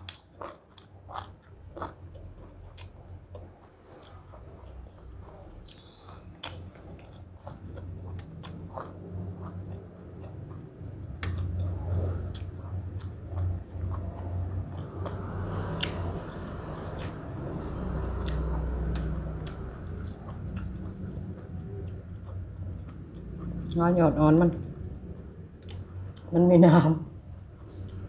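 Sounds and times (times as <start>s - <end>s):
person chewing food: 0.0s - 23.8s, 24.7s - 26.3s, 27.6s - 28.0s.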